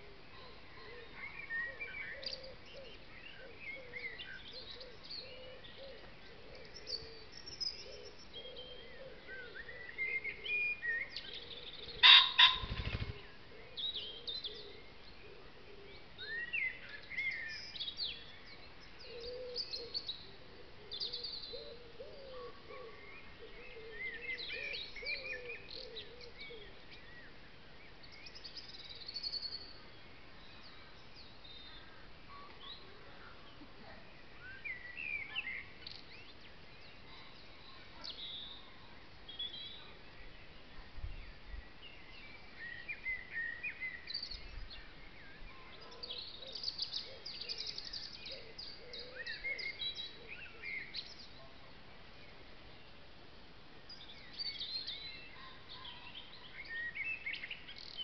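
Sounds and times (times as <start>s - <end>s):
small birds chirping and singing: 0.0s - 58.0s.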